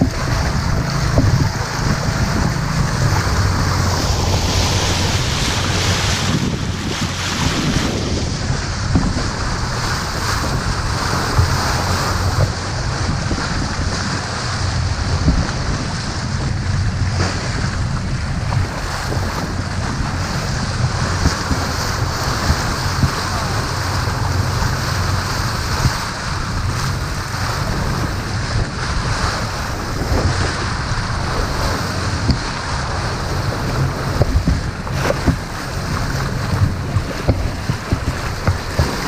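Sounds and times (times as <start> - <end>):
water rushing along a hull: 0.0 - 39.0
wind buffeting microphone: 0.0 - 39.0.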